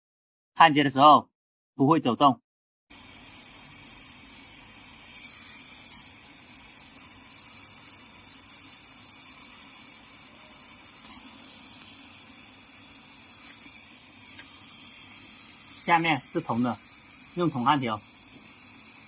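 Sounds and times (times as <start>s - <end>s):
torch flame hissing: 2.9s - 19.0s.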